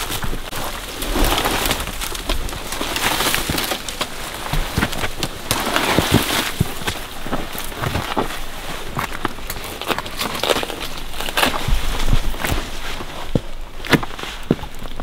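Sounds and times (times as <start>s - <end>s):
boots scraping on rock: 0.0s - 15.0s
brush rustling against backpacks: 0.0s - 15.0s.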